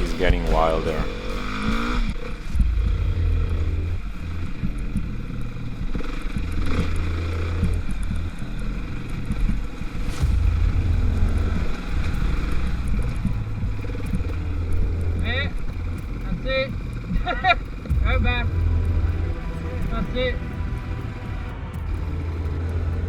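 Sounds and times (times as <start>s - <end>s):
dirt bike engine rumble: 0.0s - 23.0s.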